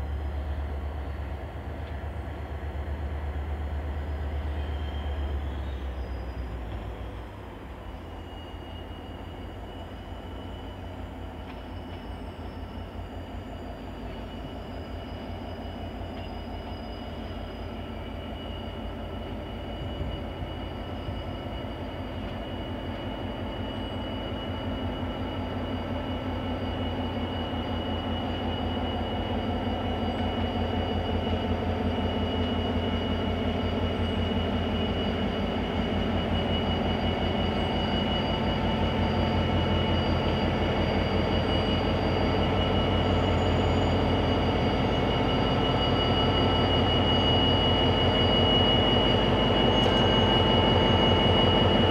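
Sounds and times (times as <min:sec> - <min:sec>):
diesel locomotive engine beat: 0:00.0 - 0:51.9.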